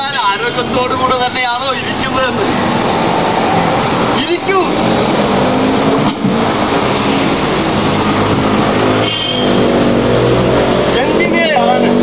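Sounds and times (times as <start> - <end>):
motor traffic noise: 0.0 - 12.0.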